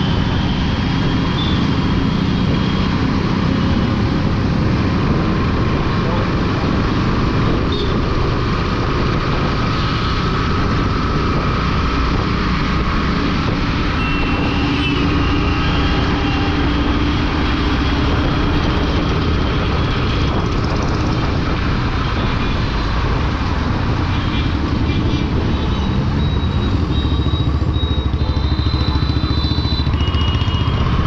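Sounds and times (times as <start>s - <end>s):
wind rushing over microphone: 0.0s - 26.7s
motorcycle engine: 0.0s - 31.0s.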